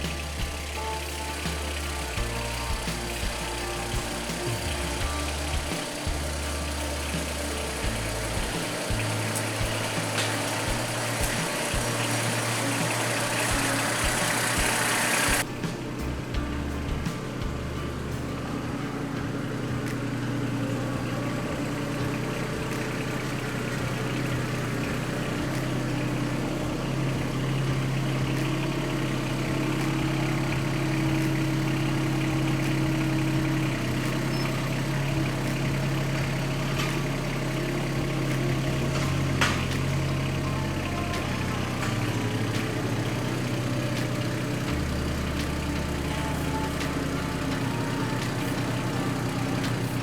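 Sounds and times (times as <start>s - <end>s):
motor humming: 0.0s - 50.0s.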